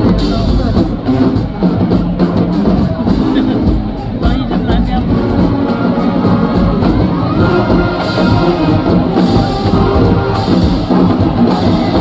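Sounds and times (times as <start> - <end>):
band music with steady beat: 0.0 - 12.0
faint crowd: 0.0 - 12.0.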